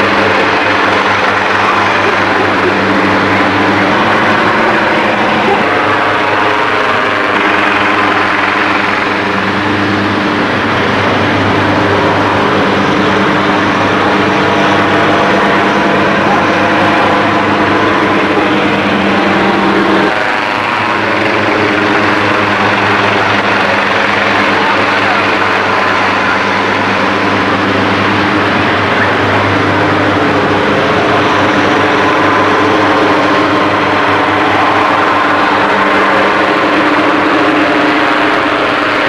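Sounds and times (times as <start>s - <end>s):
helicopter hovering overhead: 0.0s - 39.0s.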